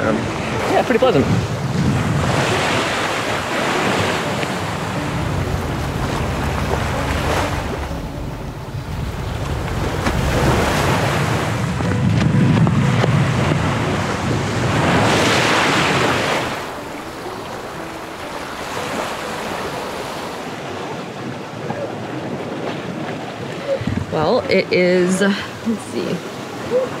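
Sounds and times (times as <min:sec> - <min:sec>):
water rushing along hull: 0:00.0 - 0:27.0
wind buffeting microphone: 0:00.0 - 0:27.0.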